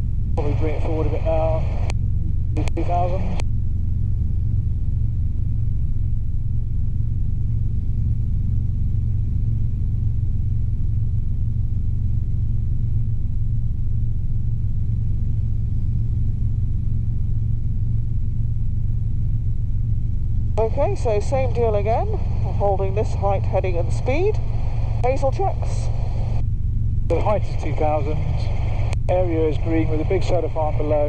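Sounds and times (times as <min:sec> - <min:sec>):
helicopter drone: 0:00.0 - 0:31.0.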